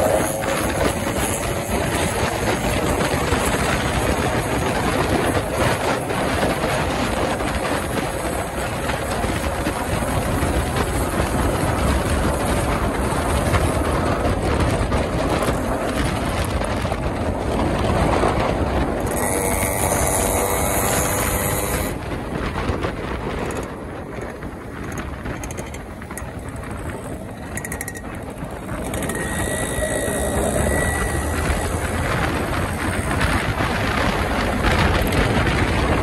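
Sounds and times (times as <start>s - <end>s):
motorcycle engine: 0.0s - 36.0s
road noise: 0.0s - 36.0s
wind rushing over microphone: 0.0s - 36.0s.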